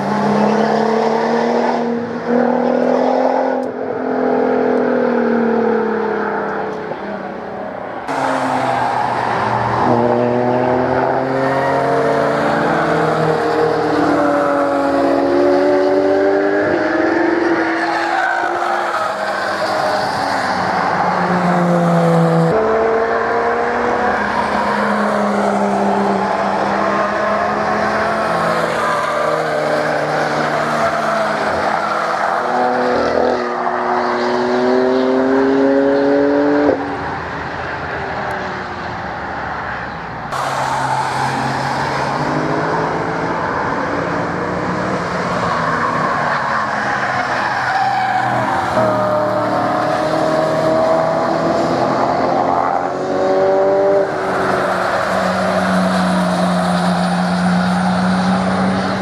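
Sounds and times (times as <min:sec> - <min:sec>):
car engines revving past: 0:00.0 - 0:59.0.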